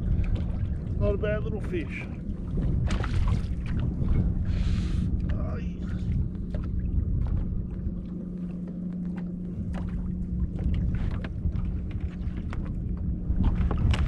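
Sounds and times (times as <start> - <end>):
steady low hum: 0.0 - 14.0
water lapping against hull: 0.0 - 14.0
wind: 0.0 - 14.0.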